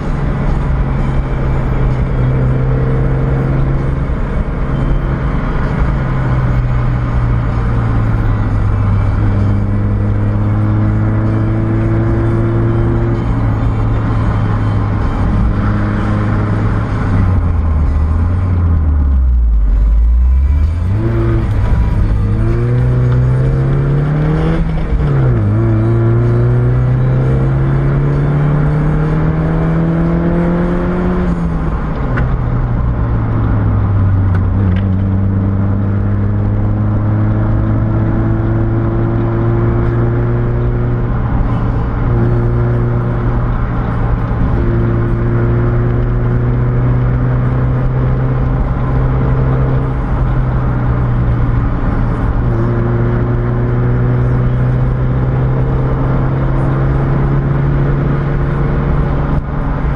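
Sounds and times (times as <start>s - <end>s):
car engine revving: 0.0s - 59.9s
tyre and road noise: 0.0s - 59.9s.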